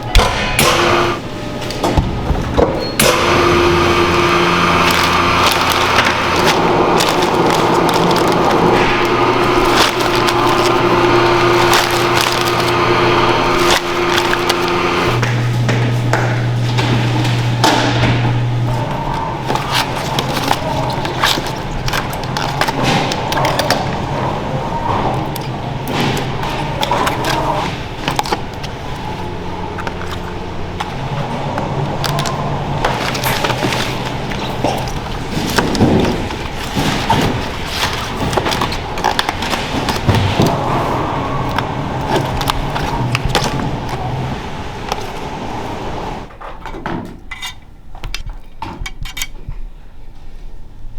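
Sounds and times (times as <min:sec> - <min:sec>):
steady machine hum: 0:00.0 - 0:46.4.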